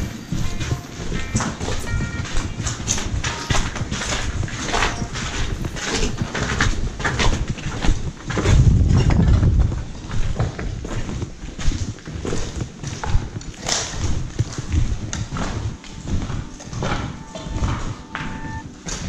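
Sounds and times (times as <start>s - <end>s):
footsteps crunching over rubble: 0.0s - 19.0s.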